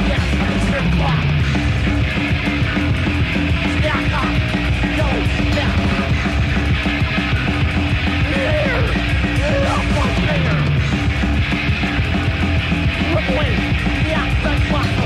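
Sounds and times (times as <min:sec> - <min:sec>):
metal band playing: 0:00.0 - 0:15.0.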